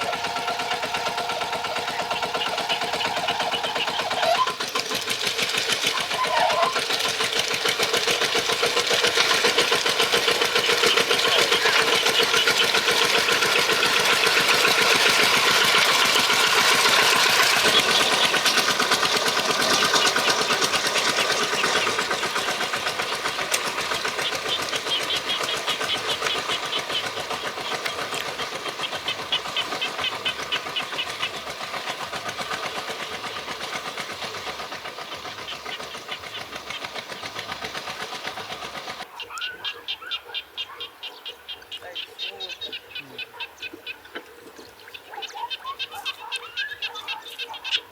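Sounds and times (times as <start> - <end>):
tractor engine knocking: 0.0 - 47.9.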